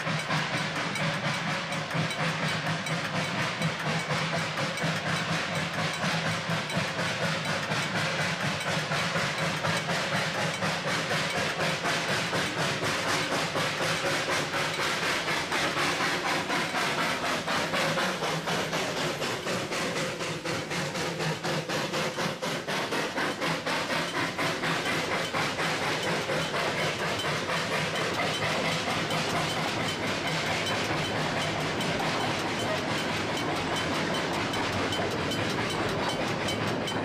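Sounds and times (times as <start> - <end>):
steam train puffing: 0.0 - 37.0.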